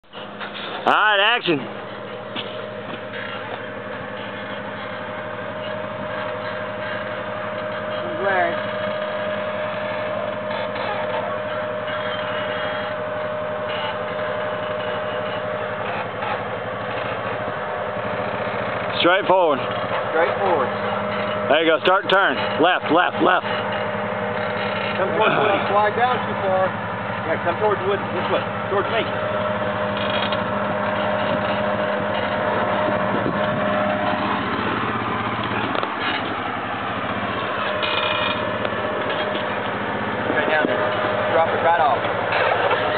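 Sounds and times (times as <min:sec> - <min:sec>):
atv engine idling: 0:00.0 - 0:42.9.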